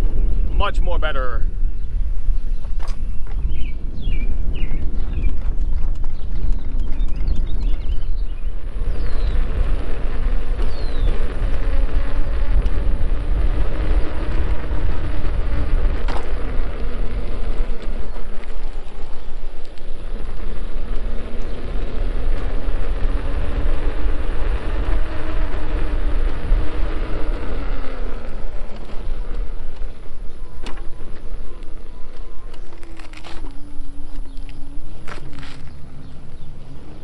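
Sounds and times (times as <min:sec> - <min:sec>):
electric motor whine: 0:00.0 - 0:37.0
tyre and wind rumble: 0:00.0 - 0:37.0.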